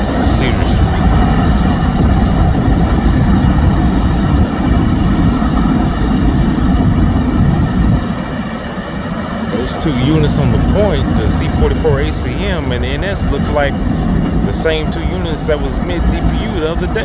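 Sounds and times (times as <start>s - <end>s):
freight train rolling on rails: 0.0s - 17.0s.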